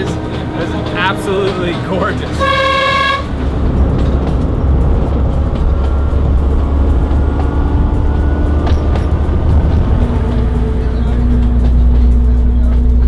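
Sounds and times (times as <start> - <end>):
diesel train rumbling: 0.0 - 13.0
engine drone: 0.0 - 13.0.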